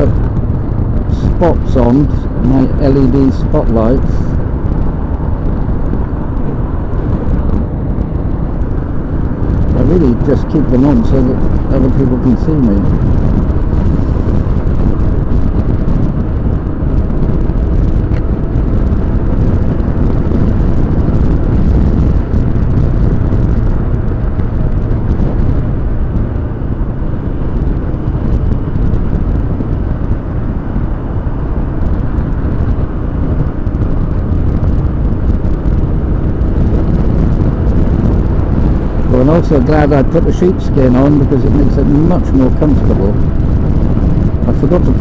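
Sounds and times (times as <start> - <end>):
motorcycle engine and wind noise: 0.0 - 45.0.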